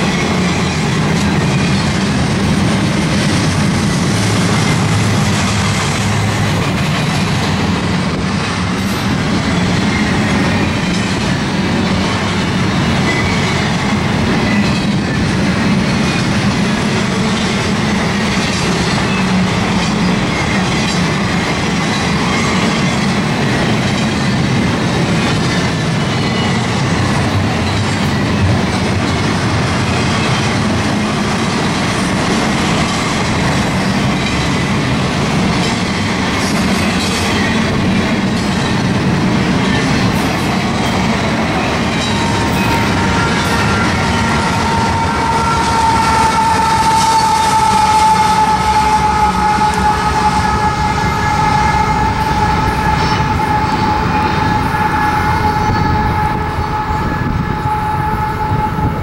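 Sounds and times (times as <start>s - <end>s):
steel wheels rolling on rails: 0.0s - 59.0s.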